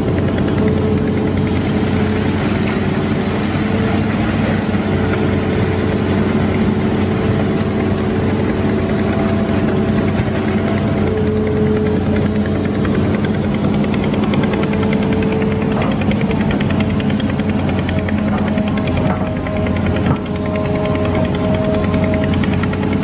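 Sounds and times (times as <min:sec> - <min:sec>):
excavator engine running: 0:00.0 - 0:23.0.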